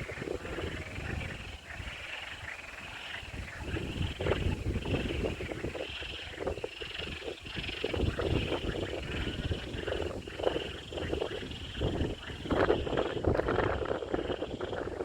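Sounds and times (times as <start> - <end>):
frogs croaking: 0.0 - 15.0
wind buffeting microphone: 0.0 - 15.0.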